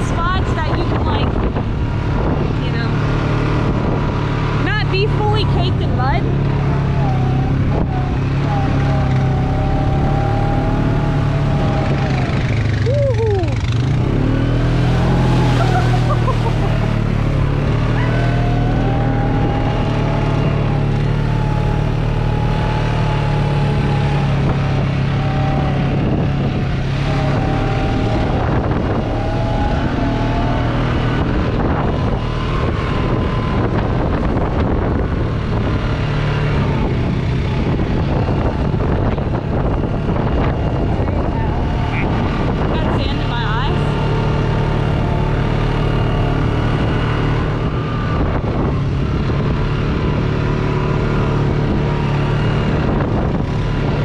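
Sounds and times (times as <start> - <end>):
vehicle engine droning with whine: 0.0 - 54.0.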